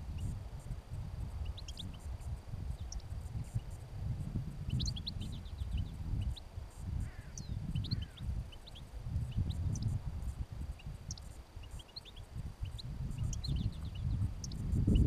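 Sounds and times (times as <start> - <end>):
wind rumbling on microphone: 0.0 - 15.0
finches chirping: 1.4 - 3.8, 4.6 - 15.0.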